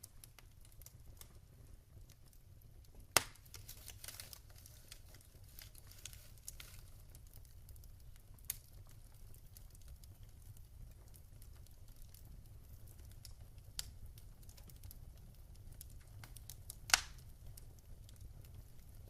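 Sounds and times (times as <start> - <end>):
low rumble of flame: 0.0 - 19.0
wood fire crackling: 0.0 - 19.0.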